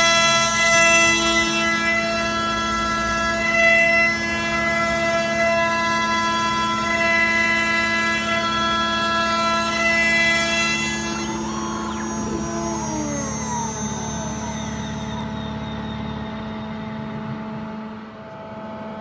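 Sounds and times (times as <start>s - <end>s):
router spindle whine: 0.0s - 19.0s
stepper motor tones: 0.0s - 19.0s.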